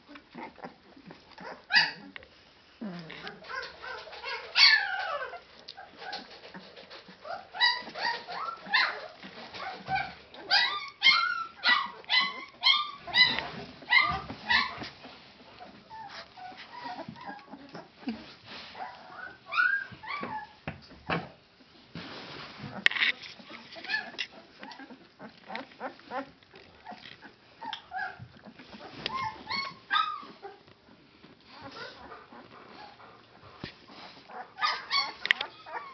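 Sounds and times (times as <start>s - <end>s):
puppies whimpering and squeaking: 0.1s - 2.2s, 2.8s - 20.6s, 22.6s - 35.9s.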